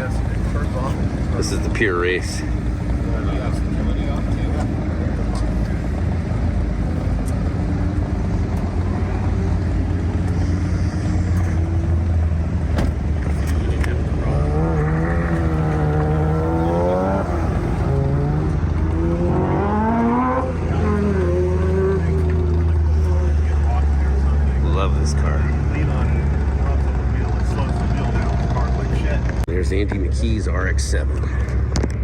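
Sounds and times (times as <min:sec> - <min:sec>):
car engine revving: 0:00.0 - 0:32.0
car engines droning: 0:00.0 - 0:32.0.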